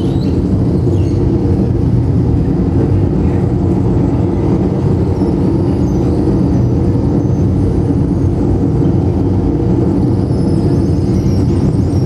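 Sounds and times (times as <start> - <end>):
low rumble of dense noise: 0.0 - 12.0.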